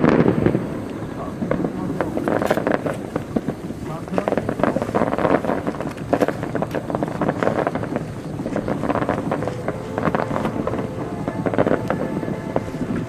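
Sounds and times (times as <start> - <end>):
fireworks bursting and crackling: 0.0 - 13.0
loud fireworks bangs: 0.0 - 13.0.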